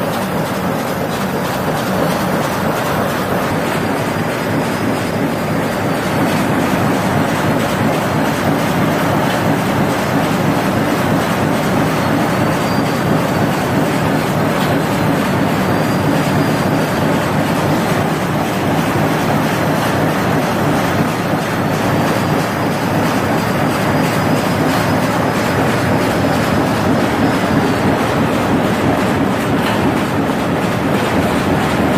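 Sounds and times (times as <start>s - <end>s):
machine mechanical clatter: 0.0s - 31.9s.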